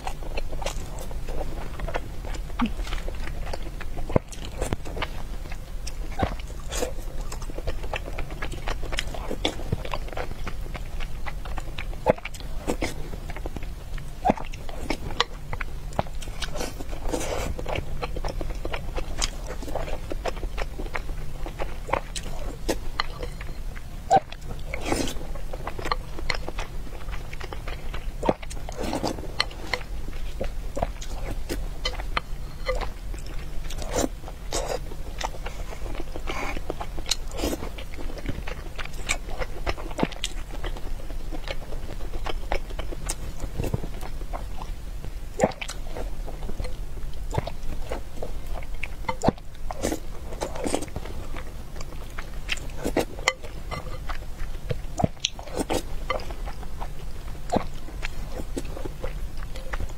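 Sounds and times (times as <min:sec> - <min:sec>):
chewing and biting: 0:00.0 - 0:44.8, 0:45.4 - 0:59.9.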